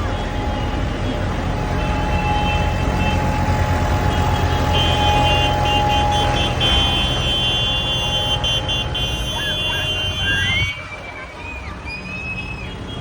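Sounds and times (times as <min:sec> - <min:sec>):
diesel tractor engine rumbling: 0:00.0 - 0:13.0.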